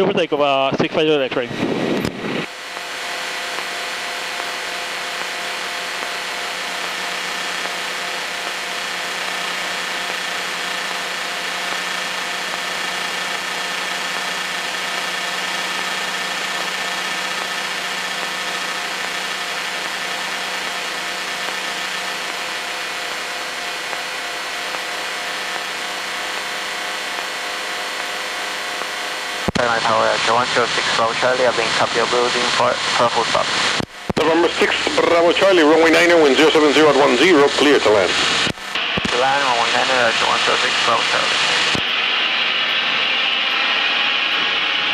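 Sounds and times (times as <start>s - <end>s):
aircraft engine and propeller drone: 0.0s - 44.9s.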